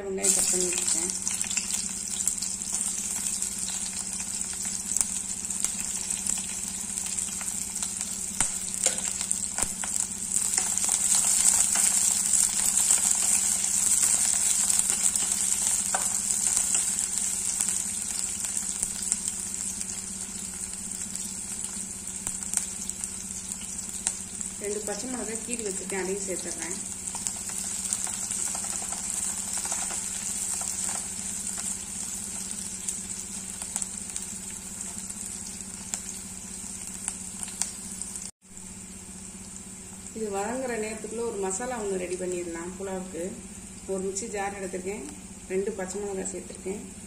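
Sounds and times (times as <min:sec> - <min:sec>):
onions sizzling in oil: 0:00.0 - 0:47.0.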